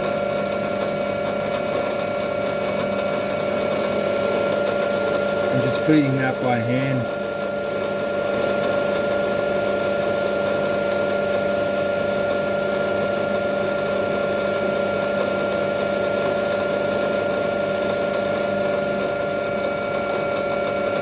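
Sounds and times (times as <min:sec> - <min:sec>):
metal lathe whining: 0:00.0 - 0:21.0.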